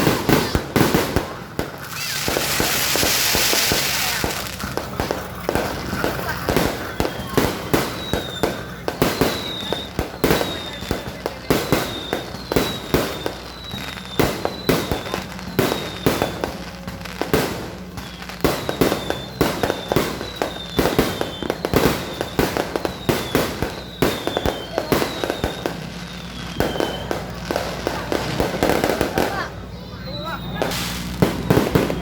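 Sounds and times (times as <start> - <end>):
fireworks bangs: 0.0 - 32.0
fireworks falling whistles: 0.0 - 32.0.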